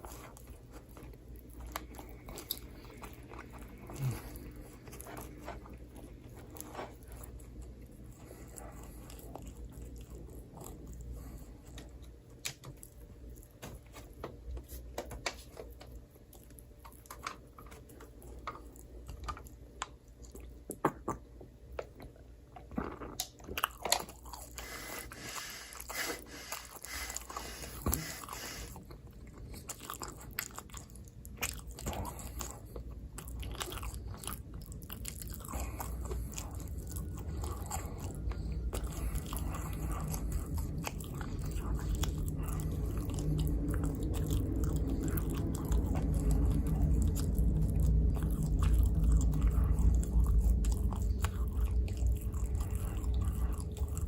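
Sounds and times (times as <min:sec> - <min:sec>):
close-miked chewing and crunching: 0:00.0 - 0:54.0.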